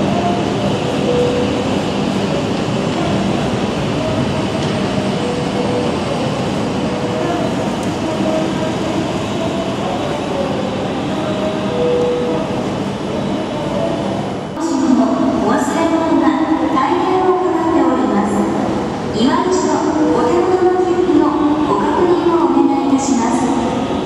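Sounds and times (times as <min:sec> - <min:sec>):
train rushing noise: 0:00.0 - 0:24.0.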